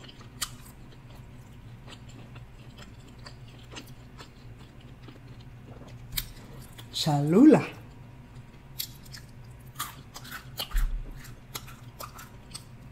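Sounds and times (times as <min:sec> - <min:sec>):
person chewing food: 0:00.0 - 0:06.9, 0:07.8 - 0:12.9
low steady hum: 0:00.0 - 0:12.9.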